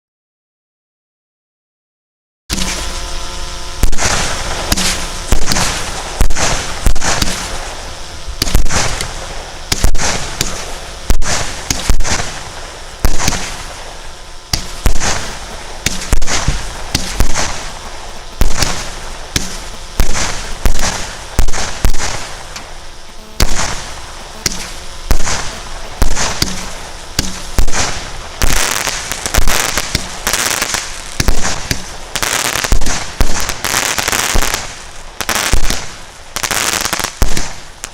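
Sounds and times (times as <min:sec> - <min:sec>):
firework cake bangs: 0:03.8 - 0:07.8, 0:08.4 - 0:17.8, 0:18.4 - 0:22.6, 0:23.4 - 0:37.9.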